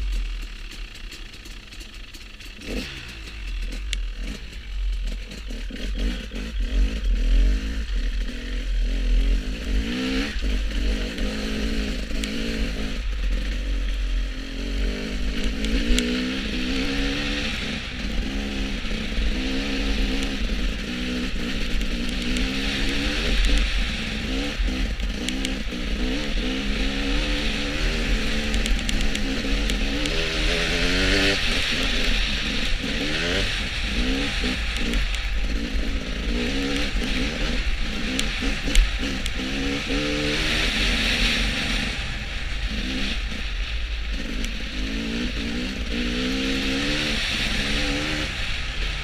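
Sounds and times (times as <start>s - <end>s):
motorcycle engine revving: 0.0s - 49.0s
wind and road hiss: 0.0s - 49.0s.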